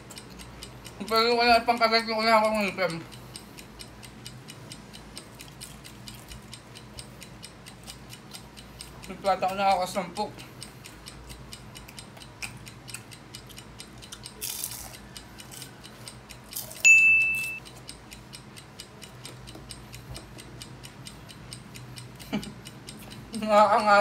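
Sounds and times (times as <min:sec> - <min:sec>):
timer ticking fast: 0:00.0 - 0:24.0.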